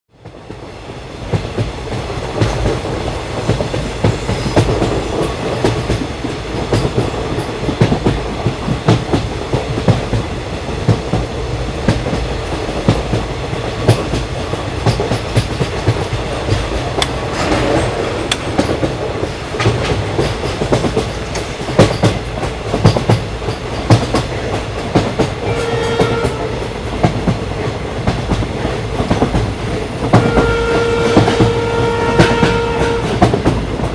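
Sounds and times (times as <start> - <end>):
train rumbling on rails: 0.1 - 33.9.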